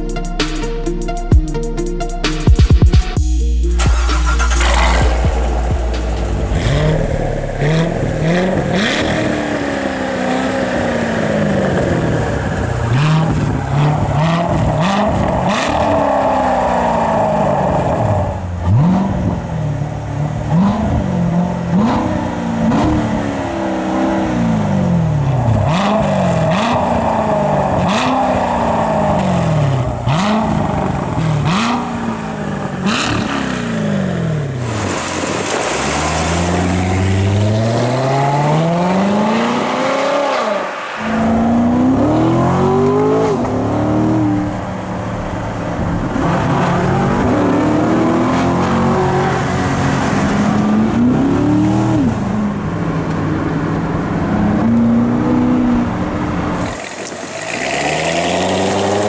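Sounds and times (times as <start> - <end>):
car engine revving: 3.2 - 59.0.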